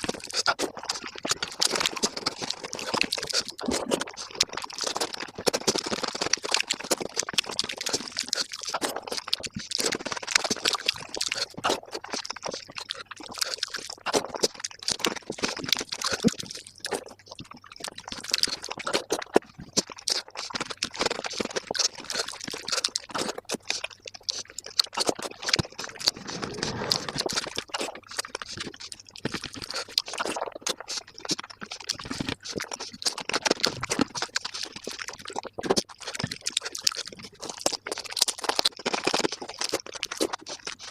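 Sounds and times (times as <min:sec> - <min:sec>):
wet chewing and mouth smacking: 0:00.0 - 0:40.9.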